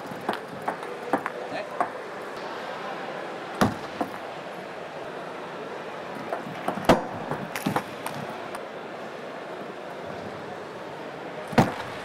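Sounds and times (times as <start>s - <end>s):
arena background hum: 0.0s - 12.0s.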